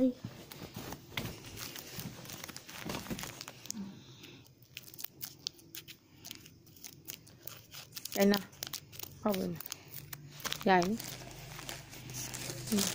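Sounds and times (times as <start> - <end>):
wrapper crinkling and tearing: 1.2 - 3.9, 4.5 - 12.9.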